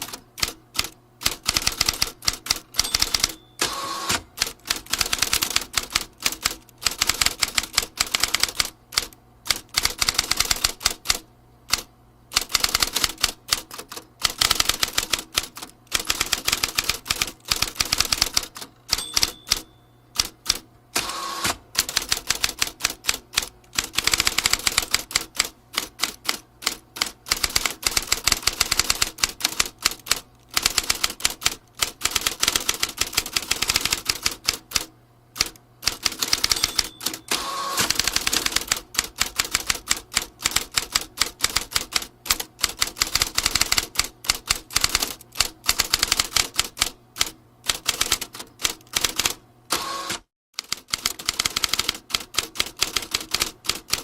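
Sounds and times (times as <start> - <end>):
manual typewriter typing: 0.0 - 54.0.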